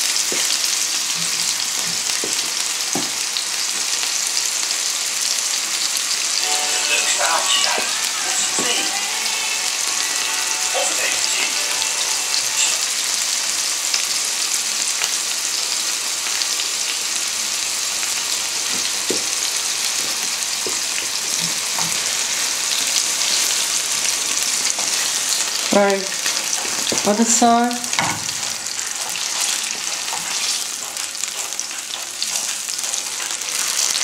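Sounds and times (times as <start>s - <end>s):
chicken and onions sizzling in pan: 0.0s - 34.0s.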